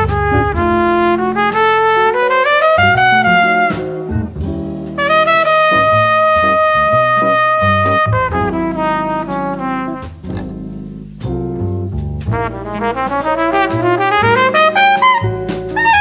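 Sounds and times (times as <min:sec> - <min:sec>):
jazz brass horn melody: 0:00.0 - 0:16.0
jazz rhythm section: 0:00.0 - 0:16.0.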